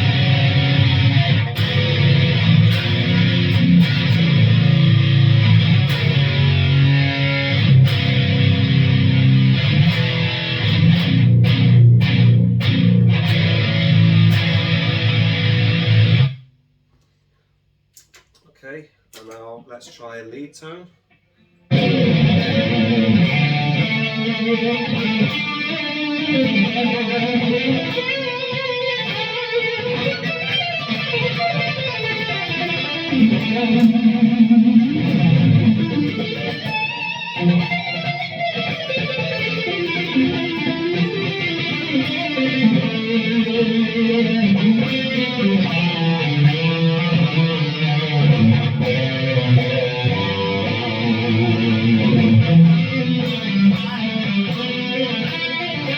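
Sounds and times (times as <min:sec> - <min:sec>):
distorted electric guitar: 0:00.0 - 0:16.5, 0:21.6 - 0:55.9.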